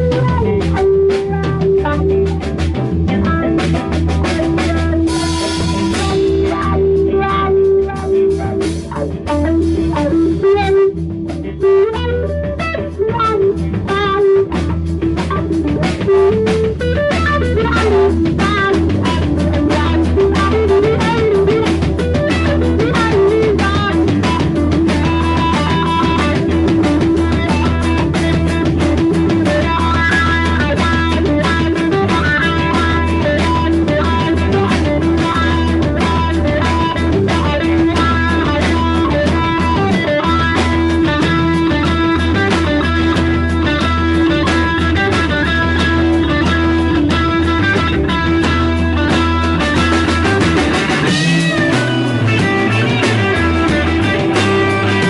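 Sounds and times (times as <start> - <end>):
live band playing guitar music: 0.0 - 55.0.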